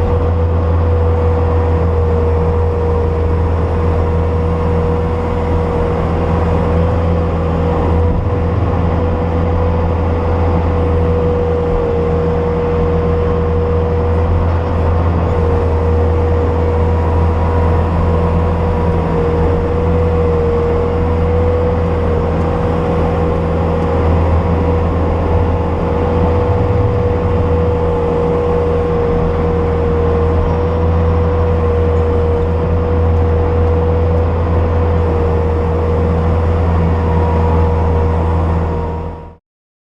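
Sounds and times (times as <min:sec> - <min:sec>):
constant whine: 0:00.0 - 0:39.4
diesel engine running: 0:00.0 - 0:39.4.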